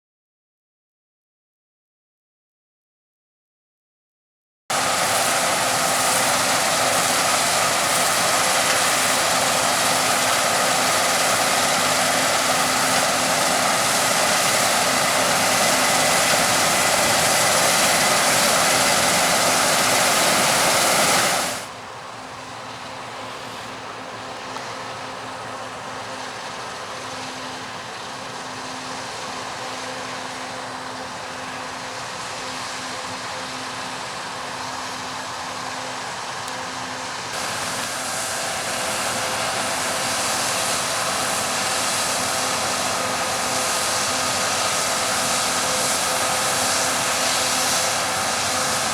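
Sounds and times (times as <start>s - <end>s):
combine harvester running: 4.7s - 48.9s.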